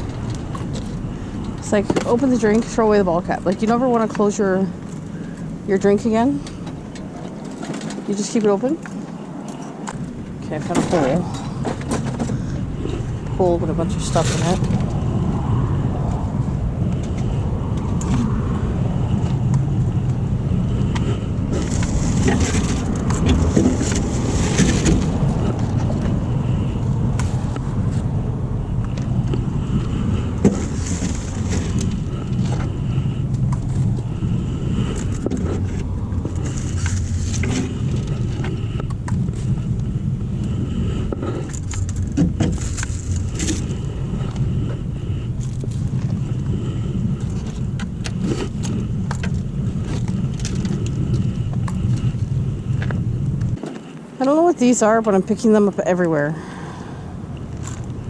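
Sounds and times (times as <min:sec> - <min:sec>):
steady low rumble: 0:00.0 - 0:58.0.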